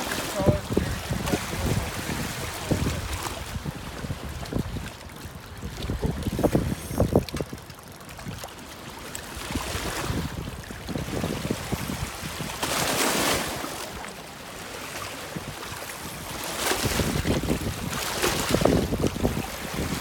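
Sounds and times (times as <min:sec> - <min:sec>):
wind buffeting microphone: 0:00.0 - 0:08.5, 0:09.4 - 0:13.6, 0:15.2 - 0:20.0
water lapping on rocky shore: 0:00.0 - 0:20.0.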